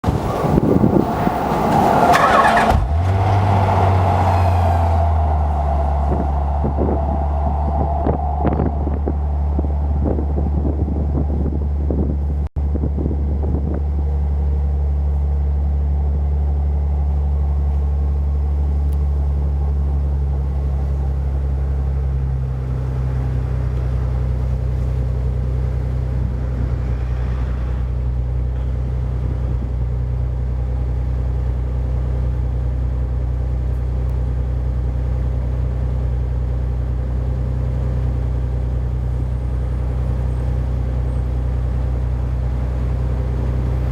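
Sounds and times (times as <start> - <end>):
car engine idling: 0.0 - 43.9
faint engine whine: 0.0 - 43.9.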